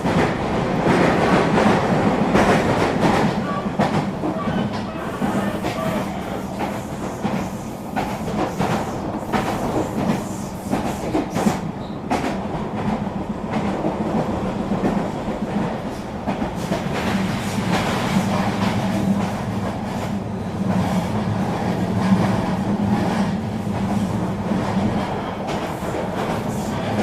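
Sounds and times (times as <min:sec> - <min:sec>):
train rolling rumble: 0:00.0 - 0:27.0.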